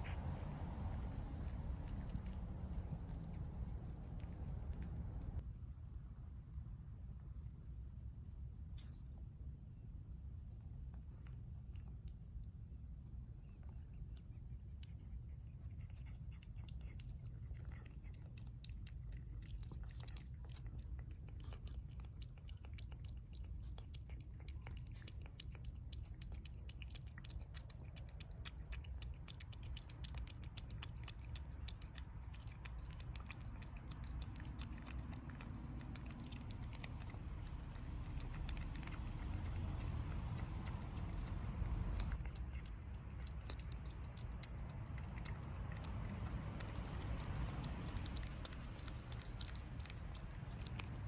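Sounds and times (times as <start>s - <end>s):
cats chewing food: 0.0s - 5.4s, 10.9s - 51.0s
low rumble: 0.0s - 6.8s, 11.7s - 51.0s.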